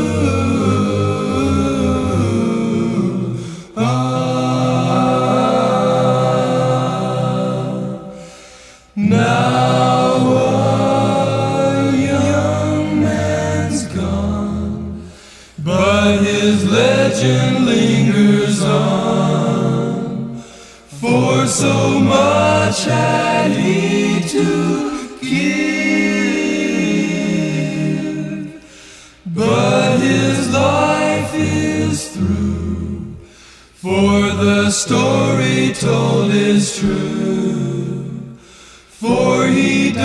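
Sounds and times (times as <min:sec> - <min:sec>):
song with several singing voices: 0:00.0 - 0:40.0.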